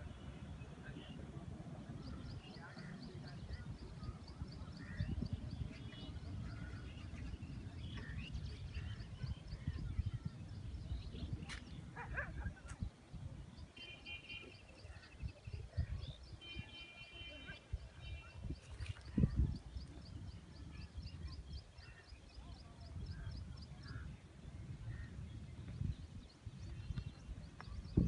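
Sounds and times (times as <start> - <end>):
wind on microphone: 0.0 - 13.8, 14.6 - 16.8, 17.4 - 28.0.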